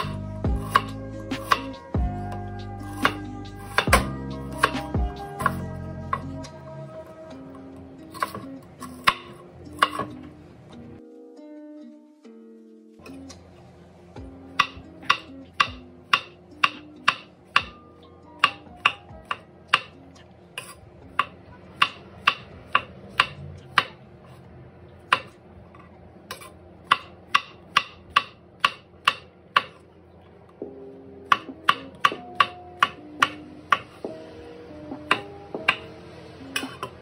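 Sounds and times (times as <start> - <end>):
soft ukulele music: 0.0 - 23.9, 30.4 - 37.0.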